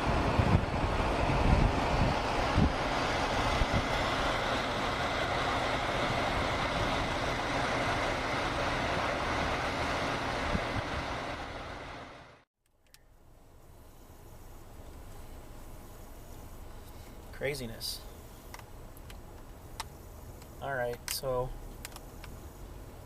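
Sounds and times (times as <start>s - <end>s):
vehicle engines idling: 0.0s - 12.4s, 13.1s - 23.0s
faint steady whine: 0.0s - 23.0s.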